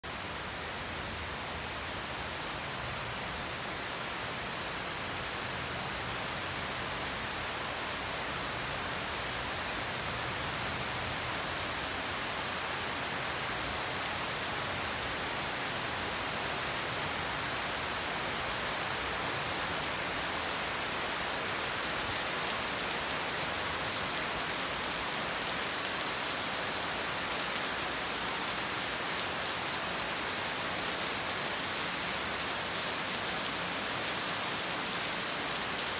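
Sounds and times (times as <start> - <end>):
rain falling on pool and tiles: 0.0 - 35.9.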